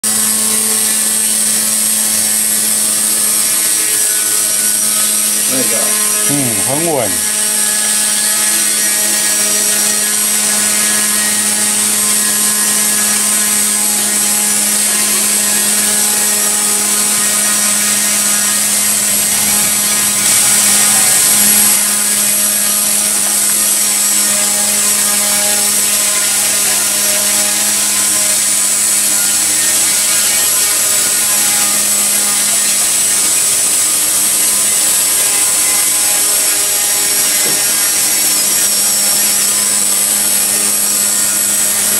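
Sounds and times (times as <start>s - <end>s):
rc helicopter hovering: 0.0s - 41.9s.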